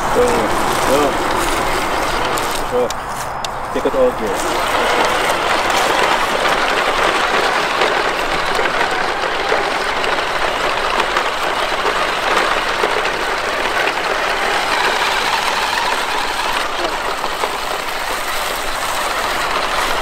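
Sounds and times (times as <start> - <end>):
small crackles of leaves: 0.0 - 20.0
toy truck rattling crunch: 0.0 - 20.0.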